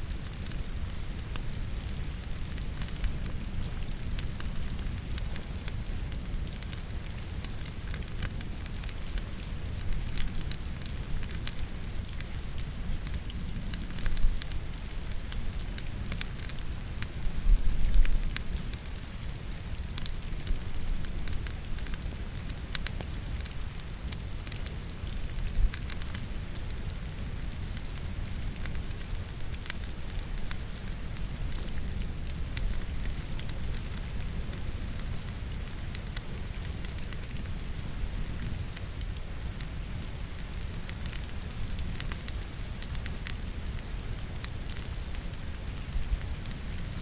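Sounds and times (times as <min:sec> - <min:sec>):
rain falling: 0:00.0 - 0:47.0
wood fire crackling: 0:00.0 - 0:47.0.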